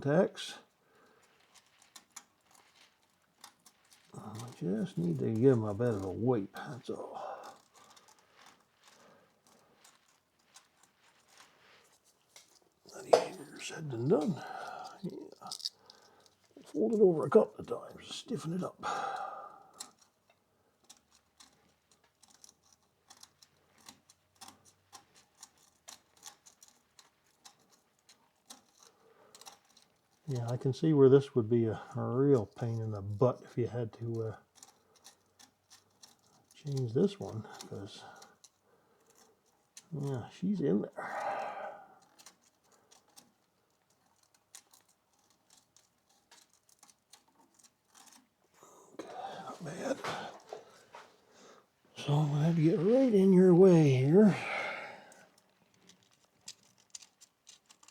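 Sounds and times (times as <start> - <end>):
emery cloth scratching contacts: 0.0 - 18.8, 19.5 - 40.9, 41.6 - 57.9.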